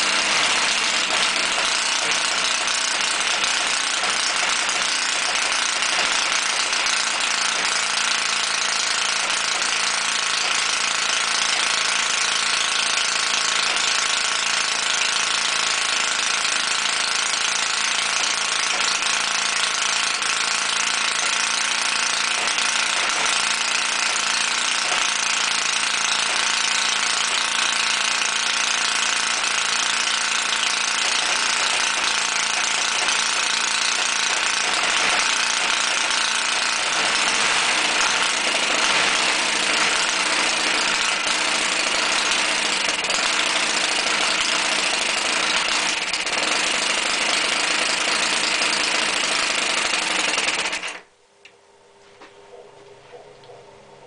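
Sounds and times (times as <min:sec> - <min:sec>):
model engine running: 0:00.0 - 0:51.1.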